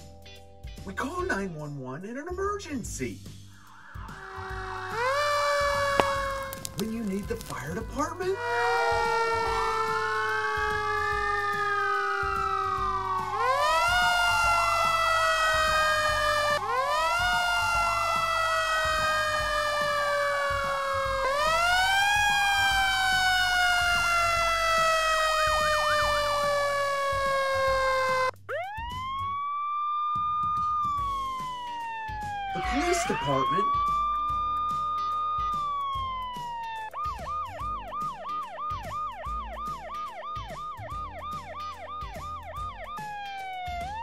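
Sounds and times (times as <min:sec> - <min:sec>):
fire engine sirens wailing: 0:03.6 - 0:44.0
siren winding up: 0:03.7 - 0:44.0
siren yelping: 0:03.7 - 0:44.0.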